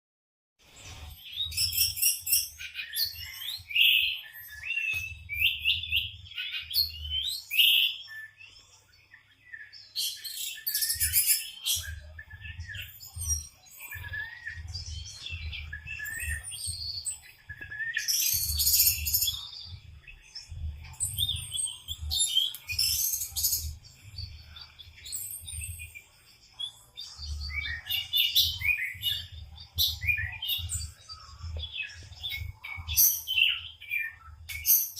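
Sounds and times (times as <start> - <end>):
songbird chirping and trilling: 0.6 - 34.9.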